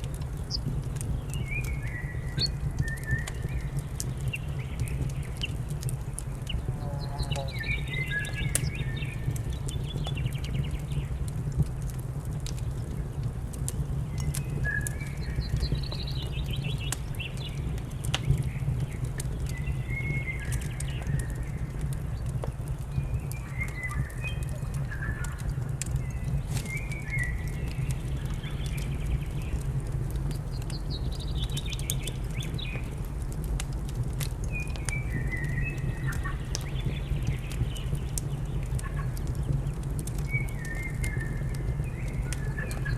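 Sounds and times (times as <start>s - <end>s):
small birds chirping: 0.0s - 11.4s, 14.0s - 33.1s, 34.4s - 42.9s
fire crackling: 0.0s - 42.9s.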